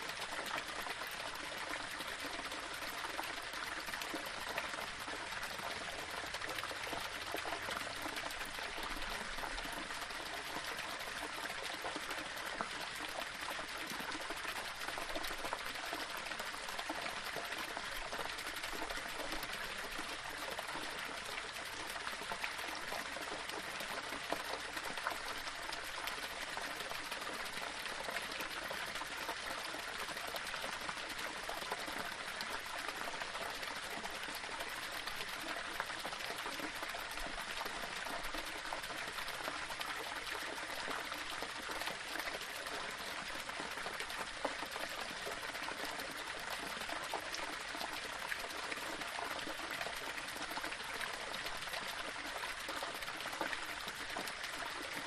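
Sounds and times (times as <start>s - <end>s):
small waterfall splashing over stones: 0.0s - 55.0s.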